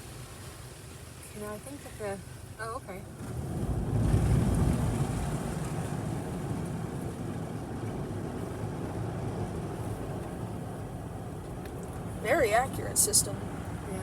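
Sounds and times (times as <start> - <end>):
car wash brushes and spray rumbling: 0.0 - 14.0.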